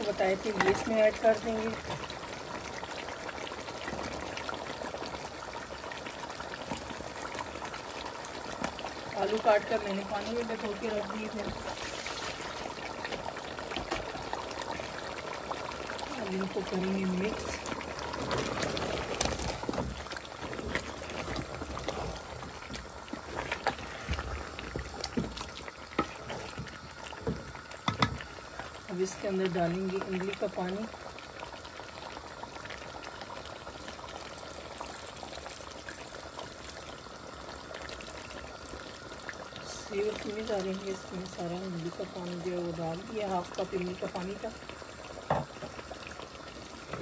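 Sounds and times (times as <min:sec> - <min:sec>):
food sizzling in a pot: 0:00.0 - 0:47.0.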